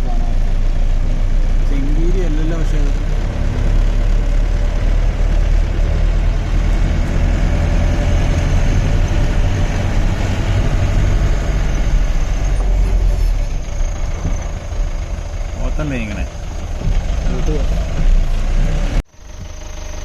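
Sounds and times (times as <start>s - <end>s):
jeep engine rumbling: 0.0s - 20.0s.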